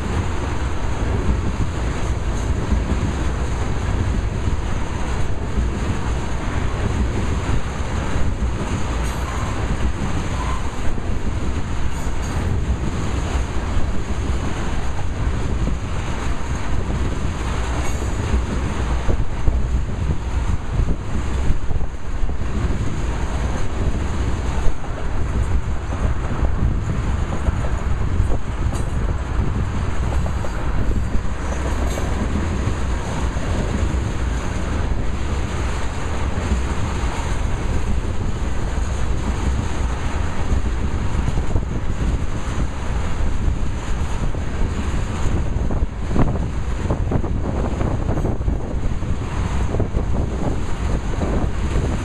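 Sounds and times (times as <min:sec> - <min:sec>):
train wheels on rails: 0:00.0 - 0:52.0
wind buffeting microphone: 0:00.0 - 0:52.0.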